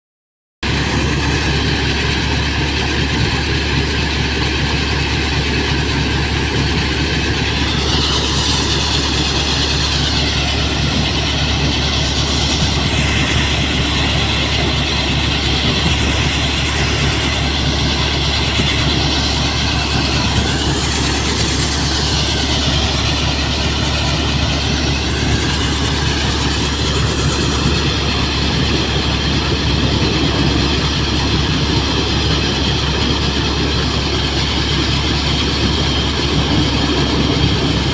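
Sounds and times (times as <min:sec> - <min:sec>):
tractor driving threshing machine: 0:00.6 - 0:37.9
deep constant hum: 0:00.7 - 0:37.9.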